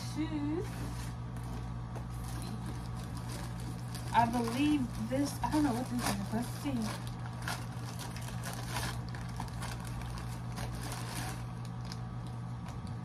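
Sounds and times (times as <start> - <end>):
steady low hum: 0.0 - 13.0
plastic packaging rustling: 0.8 - 12.9.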